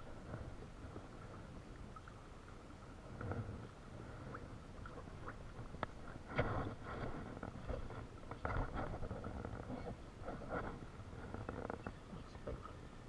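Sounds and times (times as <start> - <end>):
water rumbling against kayak: 0.0 - 13.0.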